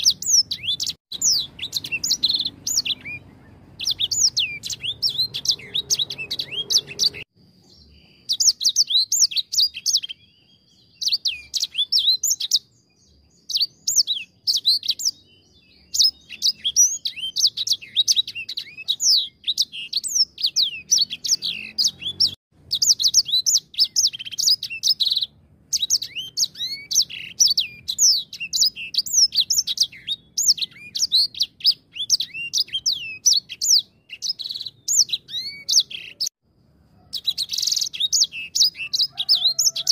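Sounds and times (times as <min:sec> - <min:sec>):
finch singing twittering warble: 0:00.0 - 0:36.3, 0:37.2 - 0:39.9.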